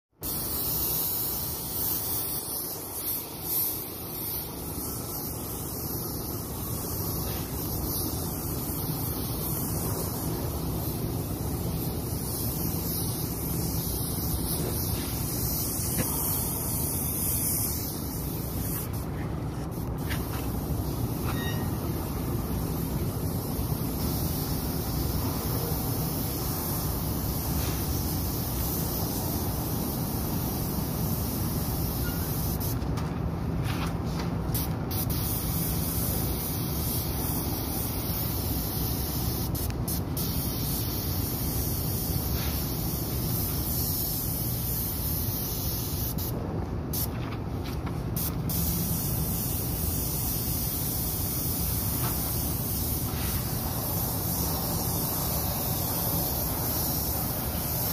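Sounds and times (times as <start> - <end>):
spray gun hissing: 0.2 - 32.8, 33.7 - 47.1, 48.2 - 57.9.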